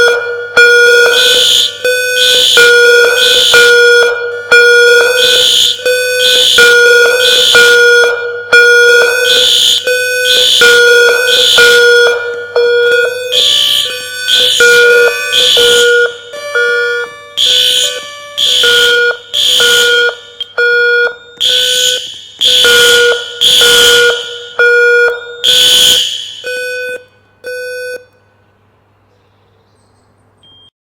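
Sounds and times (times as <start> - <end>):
fire alarm horn blasts: 0.0 - 28.6.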